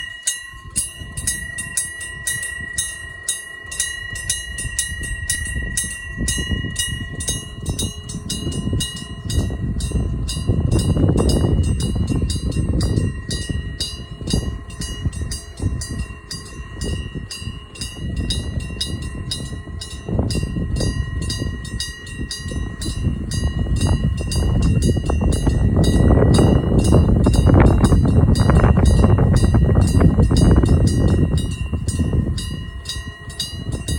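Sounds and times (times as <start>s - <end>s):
level crossing bell ringing: 0.0s - 33.9s
train rumbling: 0.0s - 33.9s.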